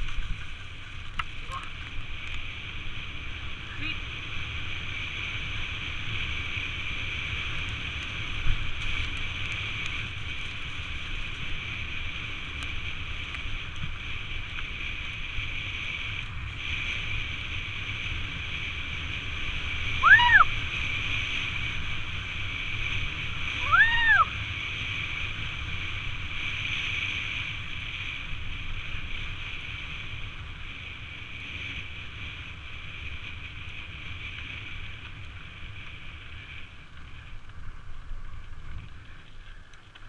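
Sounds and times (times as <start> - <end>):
wind rushing over microphone: 0.0 - 39.7
bike tyre noise on dirt: 0.0 - 40.0.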